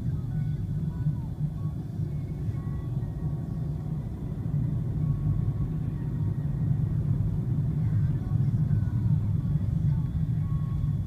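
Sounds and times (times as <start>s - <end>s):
car rumbling from inside: 0.0s - 11.0s.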